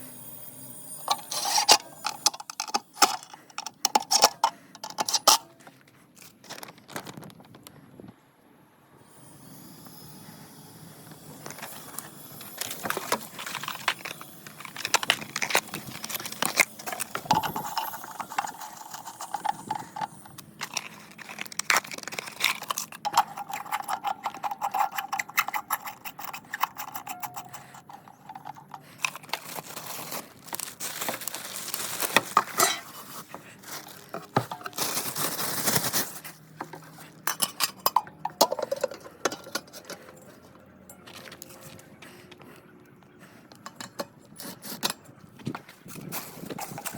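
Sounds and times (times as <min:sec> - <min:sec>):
hardware clicking and rattling: 0:01.0 - 0:05.8, 0:11.4 - 0:41.9, 0:43.5 - 0:46.9.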